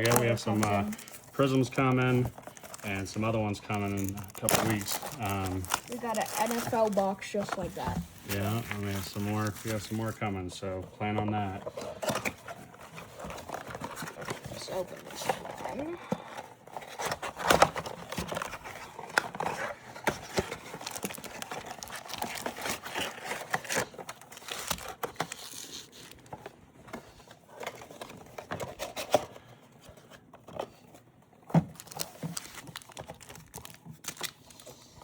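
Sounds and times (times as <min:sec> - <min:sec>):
plastic wrapping crinkling and tearing: 0:00.0 - 0:26.6, 0:31.6 - 0:35.0.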